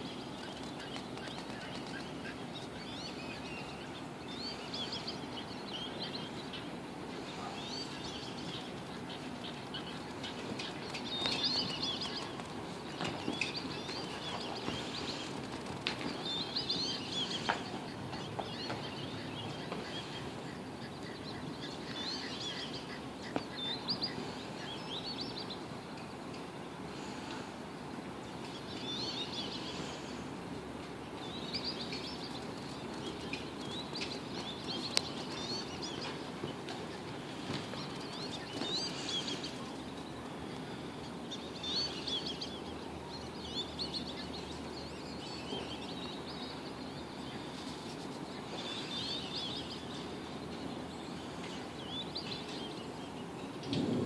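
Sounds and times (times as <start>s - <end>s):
songbirds singing: 0.0s - 54.0s
steady background noise: 0.0s - 54.0s.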